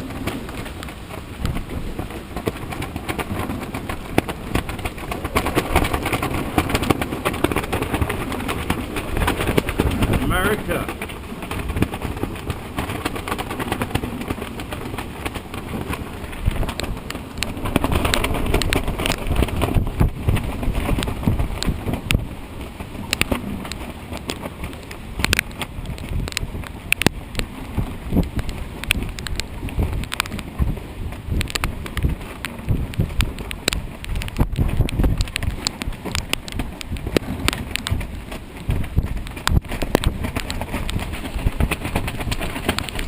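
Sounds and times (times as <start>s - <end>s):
strong wind buffeting microphone: 0.0s - 43.0s
sharp taps and knocks: 0.2s - 22.2s, 23.1s - 30.7s, 31.3s - 43.0s.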